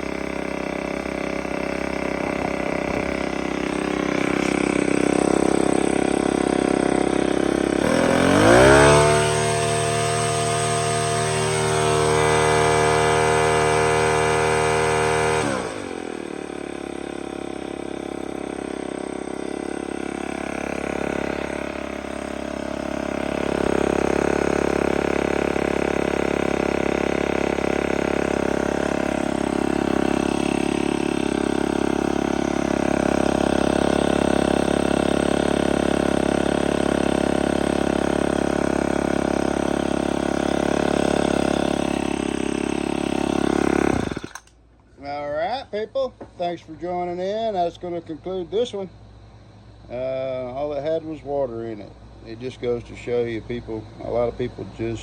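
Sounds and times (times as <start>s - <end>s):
string trimmer engine: 0.0s - 55.0s.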